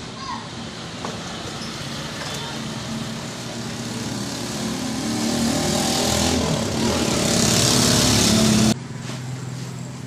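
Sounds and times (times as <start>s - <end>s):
engine running: 0.9s - 10.0s.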